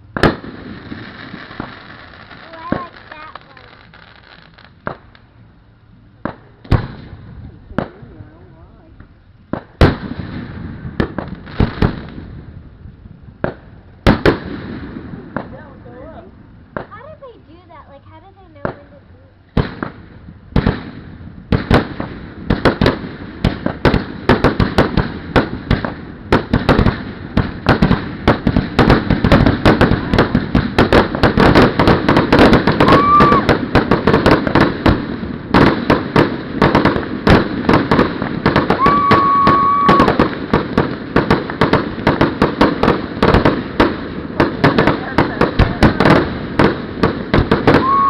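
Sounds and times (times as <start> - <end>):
firework bangs and crackles: 0.0 - 5.4, 6.2 - 48.0.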